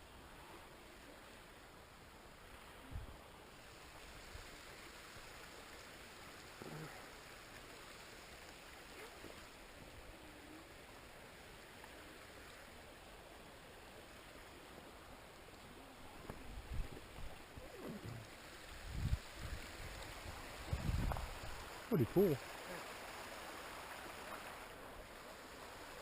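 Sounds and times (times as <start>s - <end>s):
small waterfall rushing: 0.1s - 26.0s.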